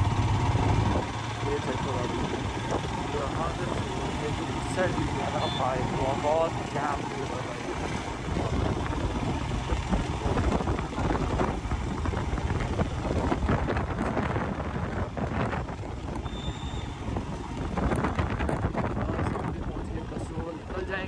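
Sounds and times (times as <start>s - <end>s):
motorcycle engine running: 0.0s - 21.0s
wind buffeting on microphone: 0.0s - 21.0s.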